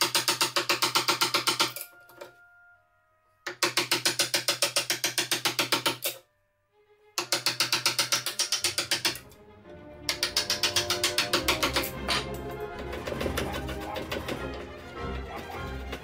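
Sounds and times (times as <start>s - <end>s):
wooden mallet striking chisel: 0.0s - 2.3s, 3.5s - 6.2s, 7.2s - 9.4s, 10.0s - 16.0s.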